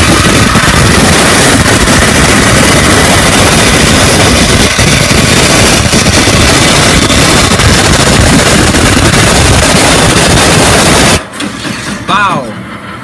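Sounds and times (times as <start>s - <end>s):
bandsaw cutting sheet metal: 0.0s - 12.1s.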